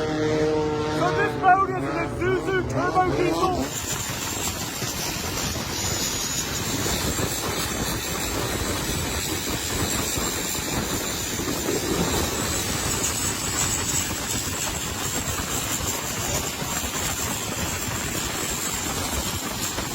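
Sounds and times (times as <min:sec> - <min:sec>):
engine running: 0:00.0 - 0:19.9.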